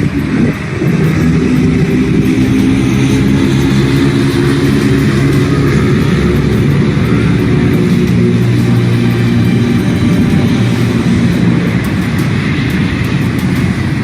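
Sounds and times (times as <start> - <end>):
steady hiss: 0.0 - 14.0
vehicle engine running low revs: 0.0 - 14.0.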